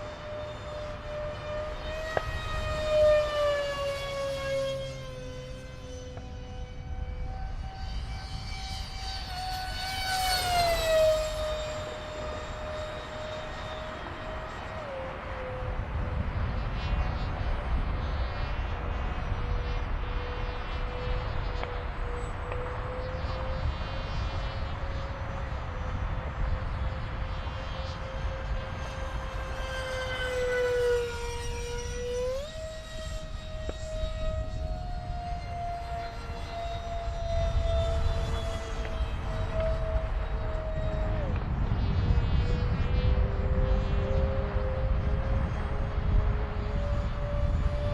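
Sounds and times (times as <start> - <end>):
model jet fan whining: 0.0 - 47.9.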